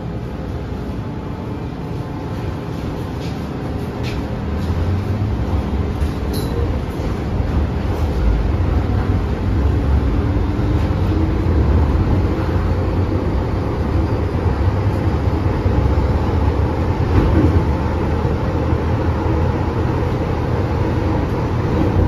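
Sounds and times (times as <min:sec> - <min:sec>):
train car-body noise: 0:00.0 - 0:22.0
train wheels rumbling on rail: 0:00.0 - 0:22.0.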